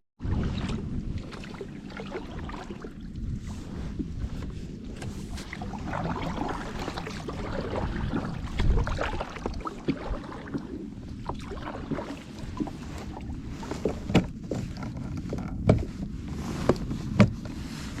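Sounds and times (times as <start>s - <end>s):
water lapping against boat hull: 0.2s - 18.0s
wind buffeting microphone: 0.2s - 18.0s.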